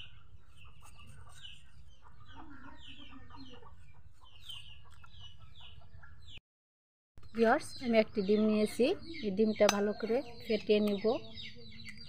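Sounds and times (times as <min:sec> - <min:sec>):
chickens clucking: 0:00.0 - 0:06.4, 0:08.0 - 0:12.0.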